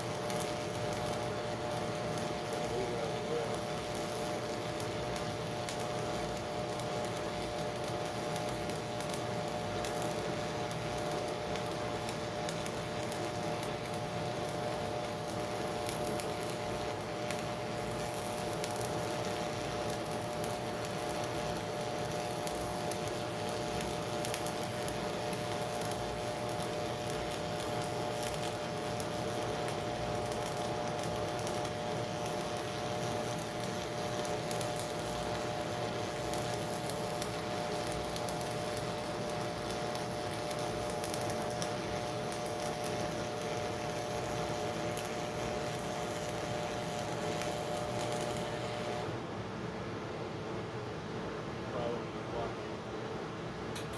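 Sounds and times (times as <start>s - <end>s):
arc welding crackle and sizzle: 0.0s - 49.4s, 53.6s - 53.9s
constant electrical hum: 0.0s - 53.9s.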